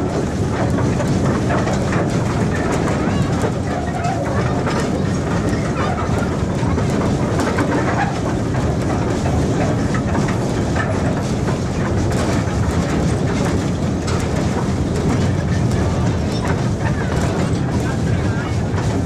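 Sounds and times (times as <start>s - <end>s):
steam locomotive rumble: 0.0s - 19.0s
train rattling: 0.0s - 19.0s.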